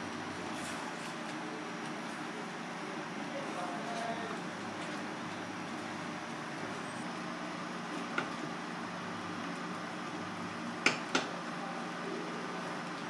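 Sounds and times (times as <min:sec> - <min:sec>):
kitchen hum and hiss: 0:00.0 - 0:13.0.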